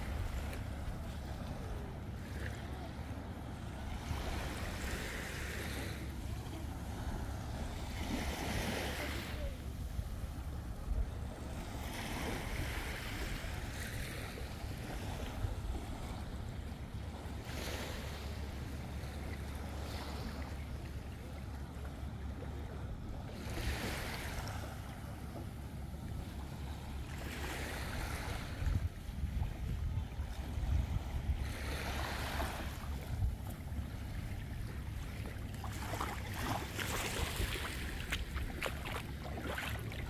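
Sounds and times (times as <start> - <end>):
sea waves washing in: 0.0 - 40.0.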